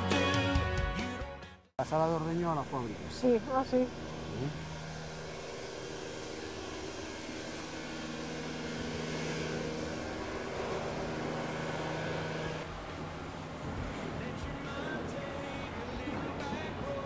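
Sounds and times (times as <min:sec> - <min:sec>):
machinery hum with held tones: 0:01.8 - 0:16.8.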